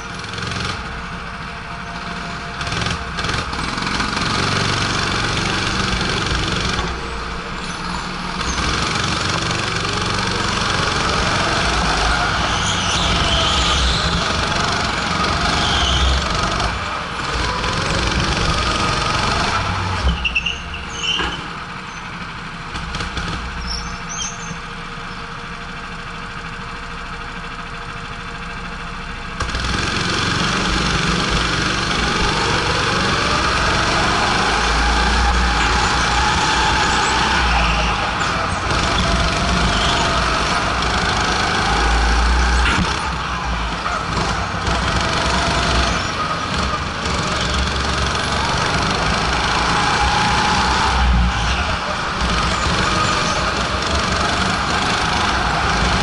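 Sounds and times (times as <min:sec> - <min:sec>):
go-kart engine: 0:00.0 - 0:56.0.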